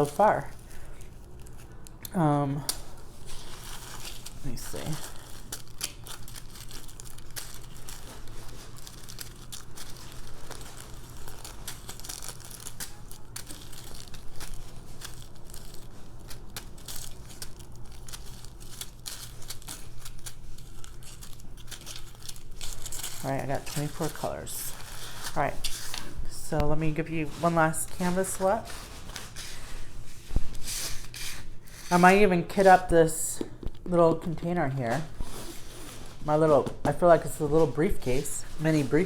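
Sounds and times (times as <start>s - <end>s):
plastic packaging crinkling: 0.0s - 39.0s.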